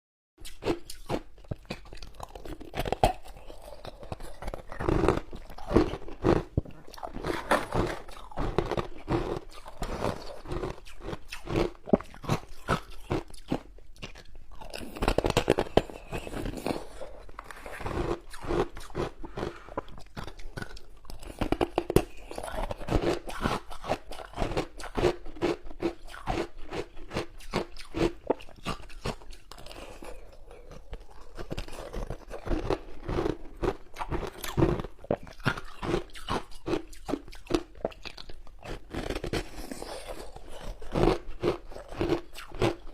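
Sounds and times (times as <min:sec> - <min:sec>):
ice crunching while chewed: 0:00.4 - 0:42.9.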